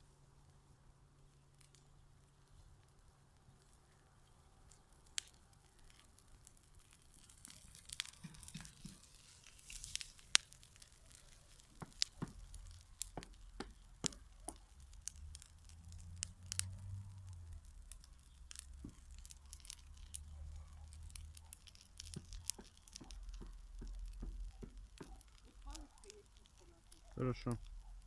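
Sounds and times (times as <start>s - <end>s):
bonfire crackling: 0.0s - 28.0s.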